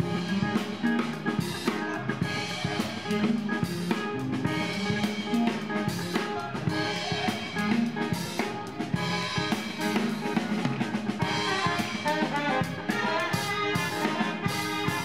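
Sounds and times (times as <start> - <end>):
funk band playing: 0.0 - 15.0.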